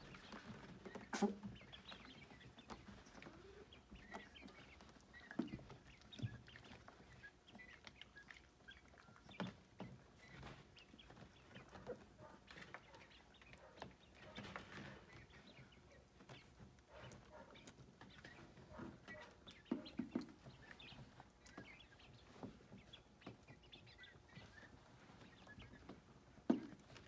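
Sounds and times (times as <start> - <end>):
young quail peeping: 0.0 - 27.0.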